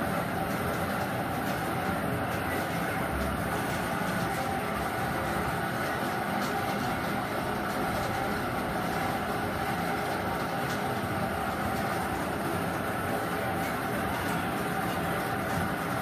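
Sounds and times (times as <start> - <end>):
blower motor whirring: 0.0 - 16.0.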